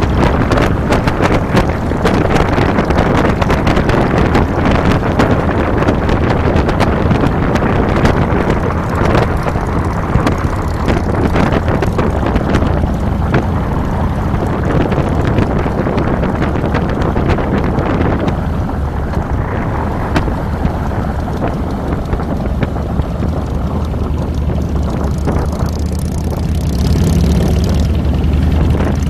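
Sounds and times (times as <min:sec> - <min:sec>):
motorcycle engine rumble: 0:00.0 - 0:29.0
wind buffeting microphone: 0:00.0 - 0:29.0.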